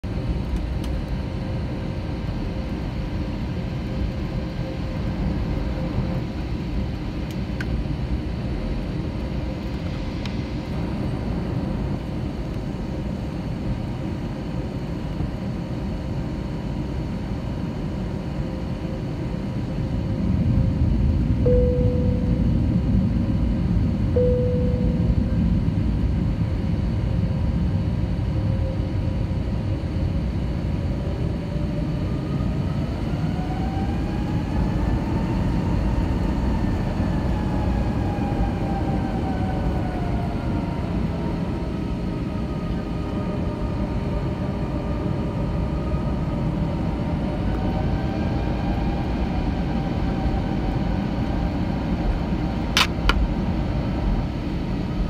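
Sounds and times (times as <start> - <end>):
aircraft engine rumble: 0.0 - 55.0
faint hum: 0.0 - 55.0.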